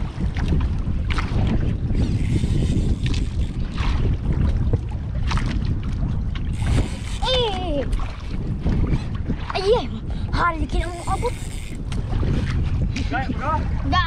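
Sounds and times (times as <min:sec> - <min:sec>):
water splashing against hull: 0:00.0 - 0:14.0
wind buffeting microphone: 0:00.0 - 0:14.0.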